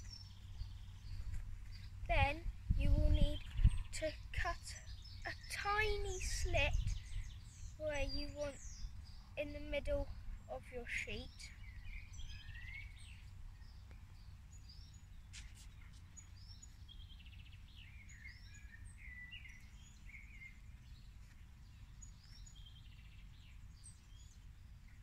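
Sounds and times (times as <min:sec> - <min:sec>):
birds chirping and trilling: 0:03.2 - 0:25.0.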